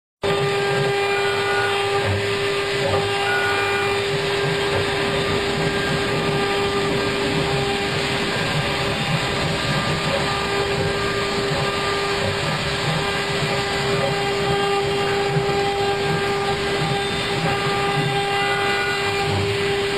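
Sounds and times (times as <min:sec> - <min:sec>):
router spindle whine: 0:00.2 - 0:19.9.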